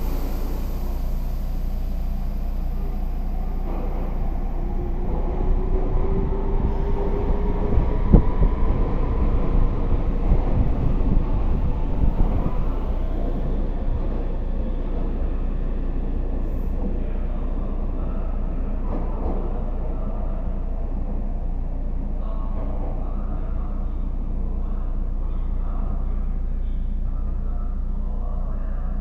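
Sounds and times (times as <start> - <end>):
train cars rumbling past: 0.0 - 25.1.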